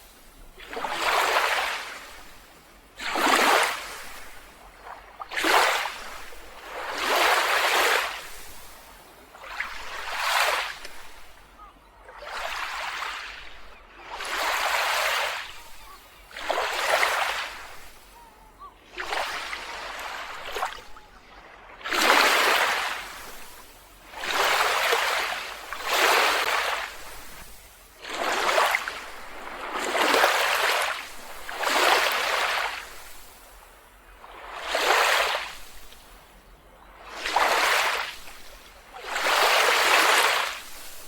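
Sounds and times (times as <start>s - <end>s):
small waves washing on beach: 0.0s - 41.0s.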